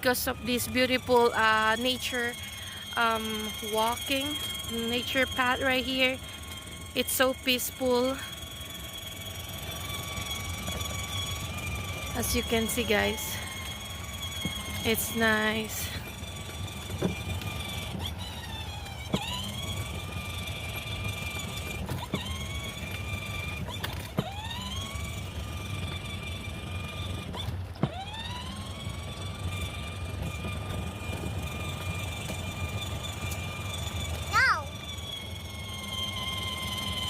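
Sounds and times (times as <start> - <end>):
toy car electric motor whining: 0.0 - 37.0
pedal click: 0.5 - 37.0.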